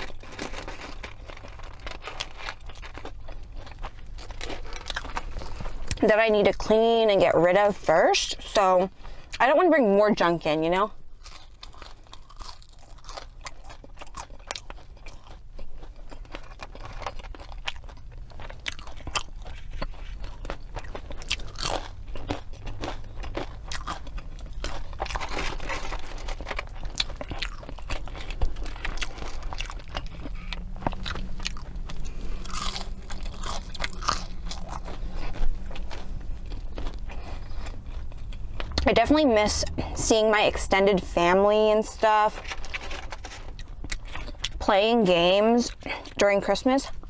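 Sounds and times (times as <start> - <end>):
chewing with crisp crunches: 0.0 - 47.0.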